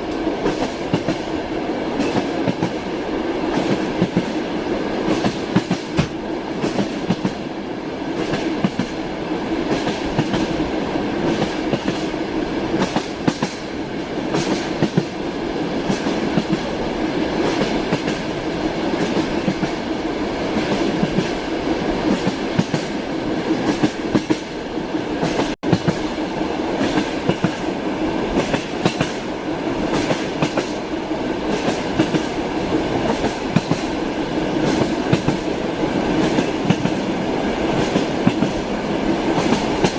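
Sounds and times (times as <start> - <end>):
railway carriage rumble: 0.0 - 39.9.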